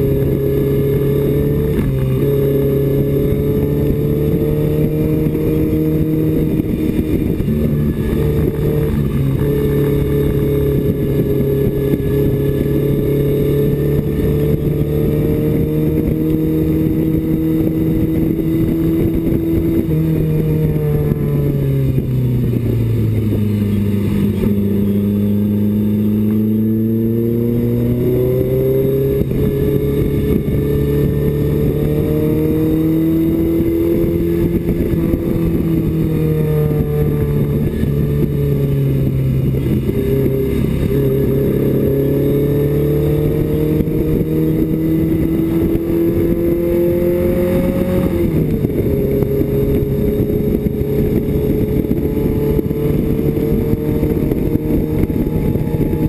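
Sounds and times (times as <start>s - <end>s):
gear change: 0.0s - 56.0s
race car engine revving: 0.0s - 56.0s.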